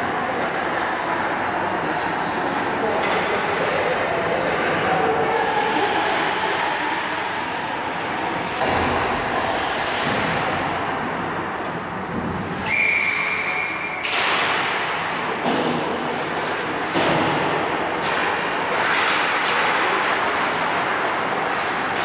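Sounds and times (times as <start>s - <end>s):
skates and play noise: 0.0s - 22.0s.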